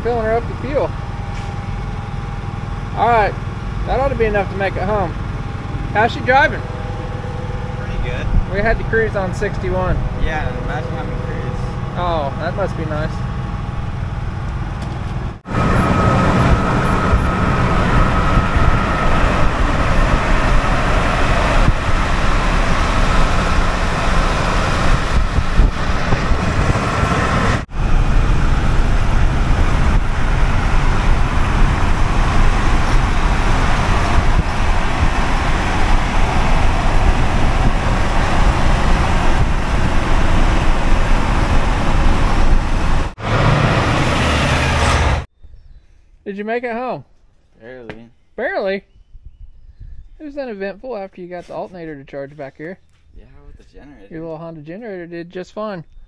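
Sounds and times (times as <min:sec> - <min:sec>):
wind and tyre noise: 0:00.0 - 0:46.0, 0:48.9 - 0:50.2.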